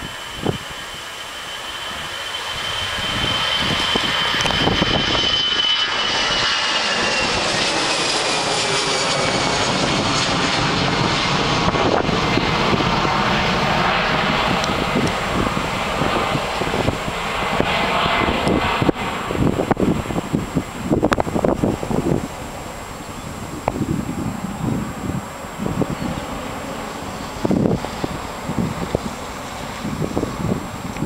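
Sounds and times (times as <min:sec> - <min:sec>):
high engine whines: 0:00.0 - 0:31.0
jet engines roaring: 0:00.0 - 0:31.0.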